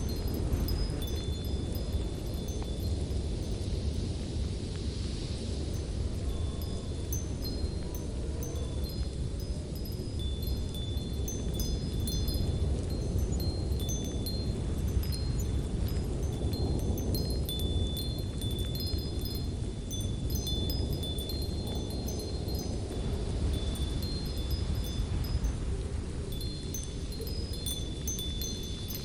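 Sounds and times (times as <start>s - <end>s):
tinkling chime notes: 0.0s - 3.8s, 6.2s - 25.6s, 26.3s - 29.0s
light wind: 0.0s - 29.0s.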